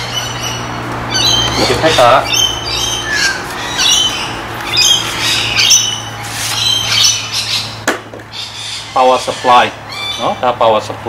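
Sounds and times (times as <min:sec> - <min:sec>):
birds squawking: 0:00.0 - 0:11.0.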